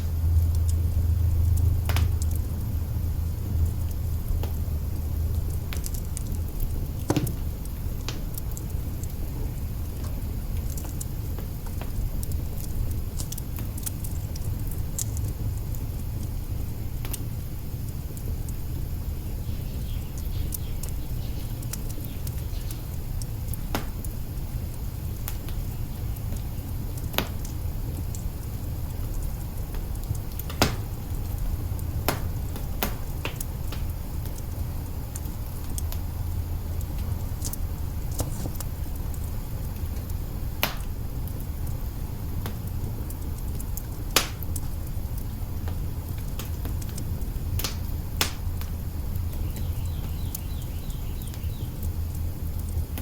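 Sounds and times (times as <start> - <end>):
log fire crackling: 0.0 - 53.0.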